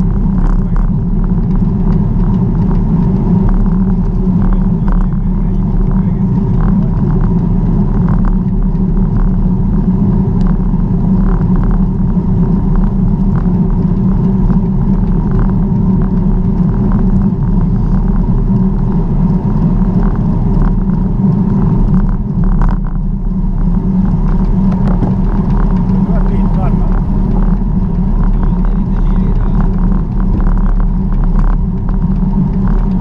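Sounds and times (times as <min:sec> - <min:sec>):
light rattles and clicks: 0:00.0 - 0:33.0
road rumble: 0:00.0 - 0:33.0
wind: 0:00.0 - 0:33.0.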